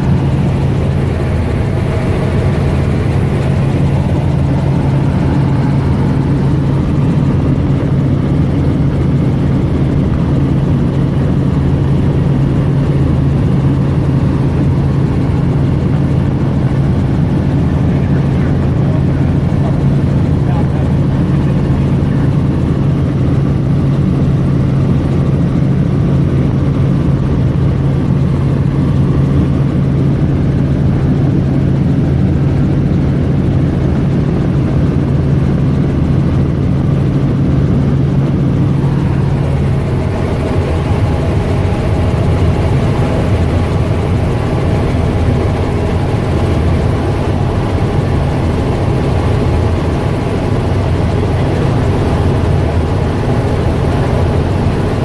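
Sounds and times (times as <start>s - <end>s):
helicopter engine and rotor noise: 0.0s - 55.0s
steady low hum: 0.0s - 55.0s.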